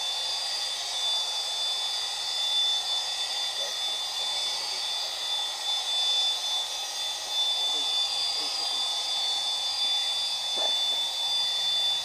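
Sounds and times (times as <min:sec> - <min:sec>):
polisher whining on countertop: 0:00.0 - 0:12.0.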